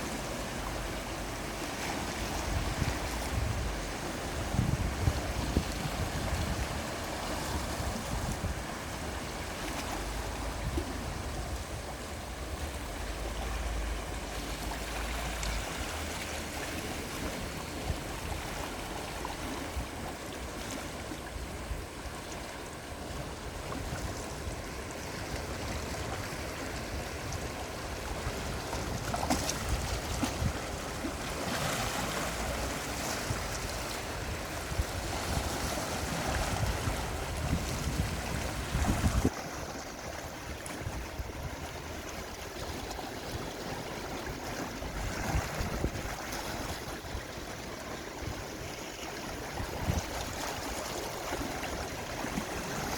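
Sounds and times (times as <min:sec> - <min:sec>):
sea waves washing in: 0:00.0 - 0:52.9
wind rumble on microphone: 0:00.0 - 0:52.9.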